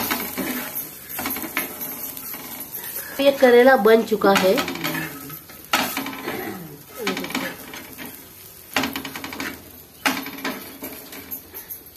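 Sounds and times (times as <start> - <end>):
metal spatula scraping iron pan: 0.0 - 11.4.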